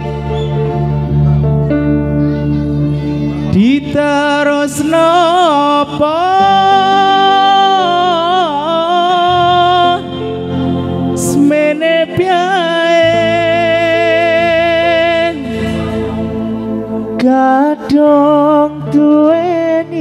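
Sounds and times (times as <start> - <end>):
instrumental chords over deep bass: 0.0 - 20.0
person singing long held notes: 0.0 - 20.0.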